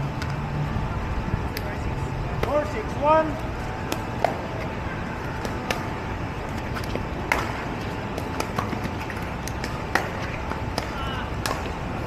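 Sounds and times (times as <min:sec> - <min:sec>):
street noise: 0:00.0 - 0:12.0.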